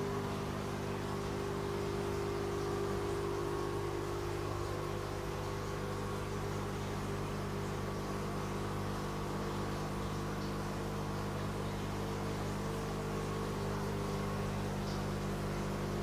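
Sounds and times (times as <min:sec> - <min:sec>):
low electrical hum: 0:00.0 - 0:16.0
water trickling: 0:00.0 - 0:16.0.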